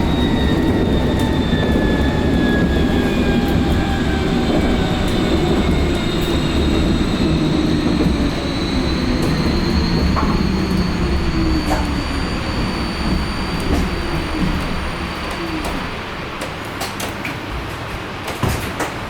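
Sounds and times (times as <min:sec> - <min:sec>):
electric motor whine: 0:00.0 - 0:16.1
tram wheels rumbling on track: 0:00.0 - 0:19.0.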